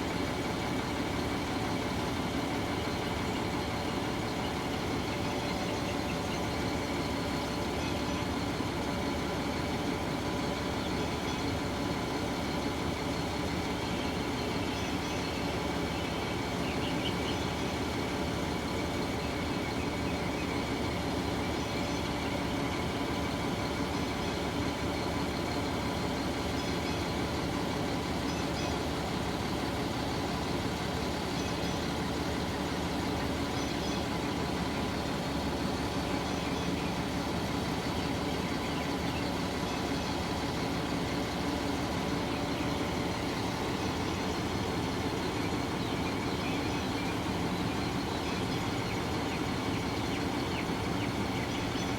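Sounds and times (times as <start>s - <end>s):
heavy engine running steadily: 0.0s - 51.9s.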